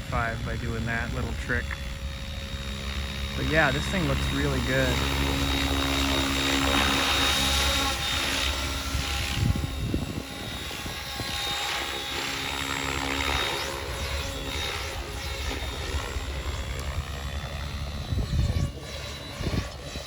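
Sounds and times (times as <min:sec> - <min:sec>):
low hum: 0:00.0 - 0:20.0
toy helicopter rotor whine: 0:00.0 - 0:20.0.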